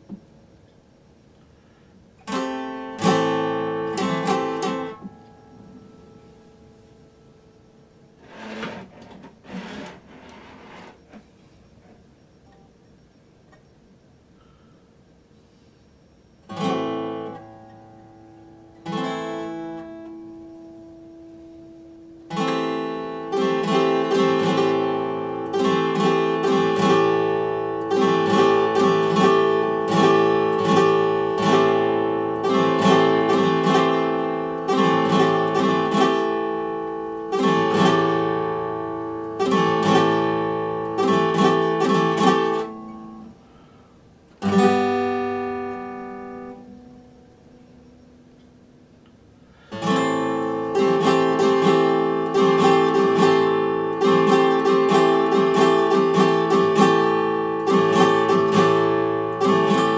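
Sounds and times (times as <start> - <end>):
acoustic guitar strumming chords: 0.0 - 11.0, 16.4 - 59.9.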